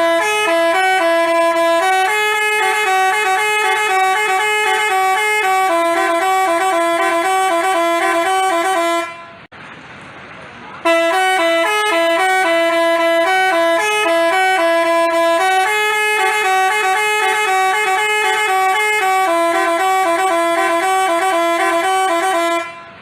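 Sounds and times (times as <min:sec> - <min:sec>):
musical horn playing a tune: 0:00.0 - 0:09.5, 0:10.8 - 0:23.0.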